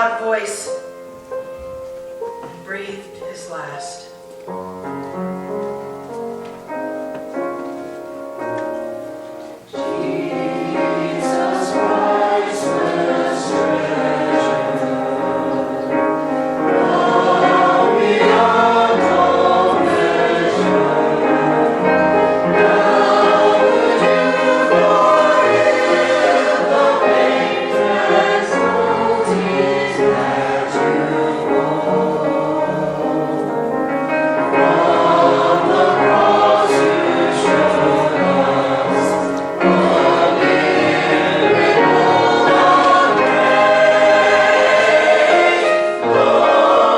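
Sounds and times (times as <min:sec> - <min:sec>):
church choir singing: 0:00.0 - 0:46.9
soft accompaniment: 0:00.0 - 0:46.9.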